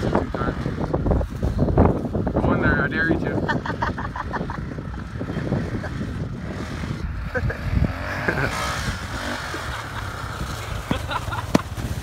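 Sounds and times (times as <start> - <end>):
quad bike engine running: 0.0 - 12.0
wind buffeting microphone: 0.0 - 12.0.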